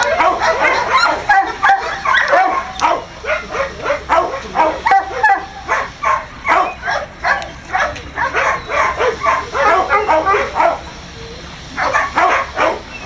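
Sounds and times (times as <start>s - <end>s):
dog whining and yipping: 0.0s - 3.9s, 4.8s - 10.9s, 11.8s - 13.0s.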